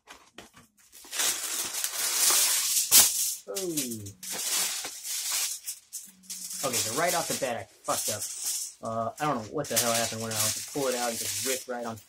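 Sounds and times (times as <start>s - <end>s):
aluminum foil crinkling: 0.0s - 12.0s
foil sheet tearing: 0.8s - 12.0s.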